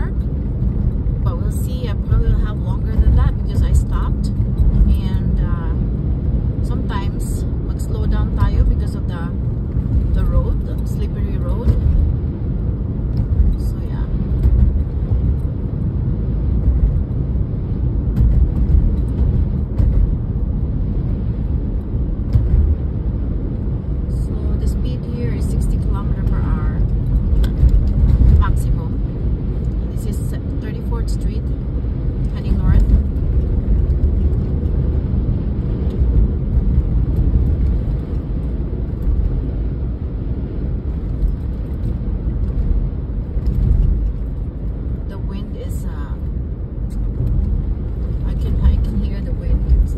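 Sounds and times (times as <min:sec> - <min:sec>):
low rumble of tyres and engine: 0:00.0 - 0:49.9.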